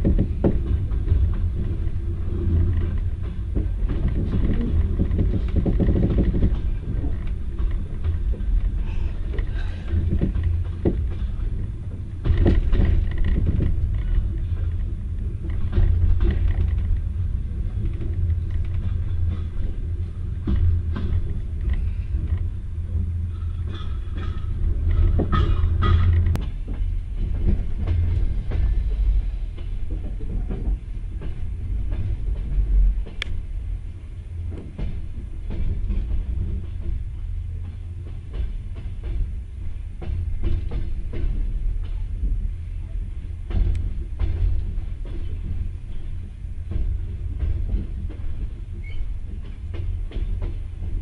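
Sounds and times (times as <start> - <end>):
train running gear rumble: 0.0 - 51.0
wheels clicking on rails: 0.0 - 51.0.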